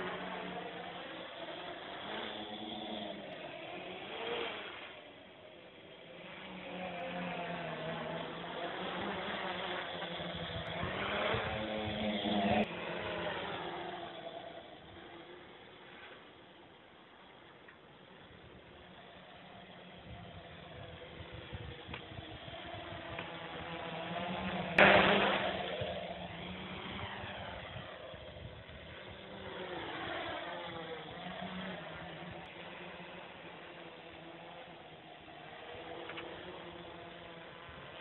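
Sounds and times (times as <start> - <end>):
drone propellers buzzing: 0.0 - 38.0
quadcopter motors whining: 0.0 - 38.0.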